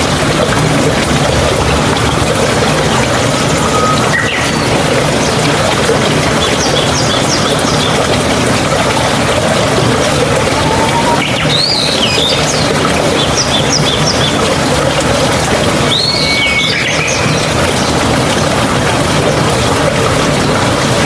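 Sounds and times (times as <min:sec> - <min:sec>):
flowing water: 0:00.0 - 0:21.0.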